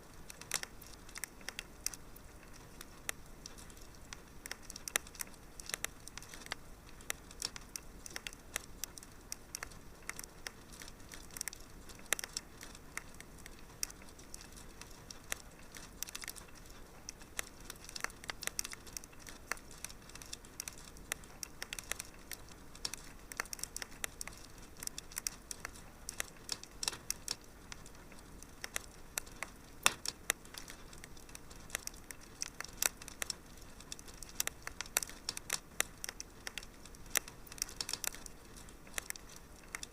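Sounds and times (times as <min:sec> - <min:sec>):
faint steady hiss: 0:00.0 - 0:39.9
fire crackling and popping: 0:00.0 - 0:39.9.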